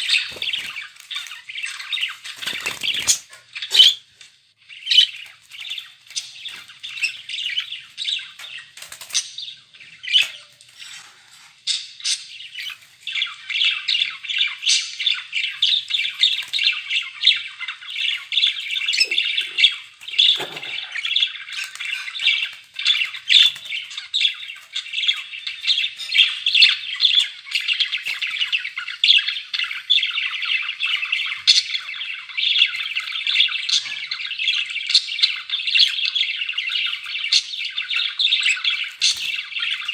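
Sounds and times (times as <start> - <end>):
budgerigars chattering: 0.0 - 4.1, 4.7 - 39.9.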